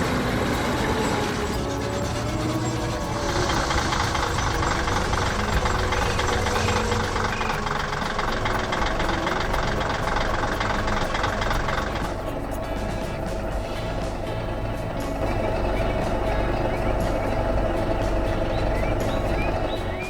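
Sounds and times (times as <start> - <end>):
machine engine knocking: 0.0 - 20.0.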